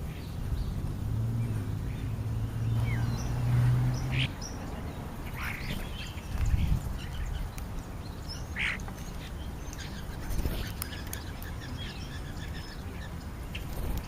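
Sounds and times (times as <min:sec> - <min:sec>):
birds calling and chirping: 0:00.0 - 0:14.0.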